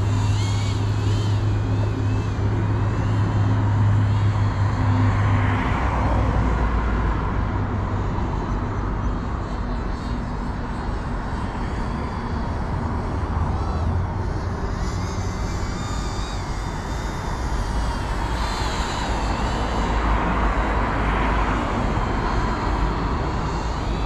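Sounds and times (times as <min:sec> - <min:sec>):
drone motors whining: 0:00.0 - 0:24.0
steady low hum: 0:00.0 - 0:24.0.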